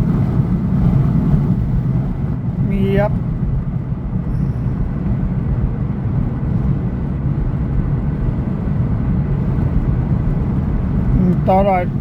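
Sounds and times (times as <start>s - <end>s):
road and engine rumble in car cabin: 0.0s - 12.0s.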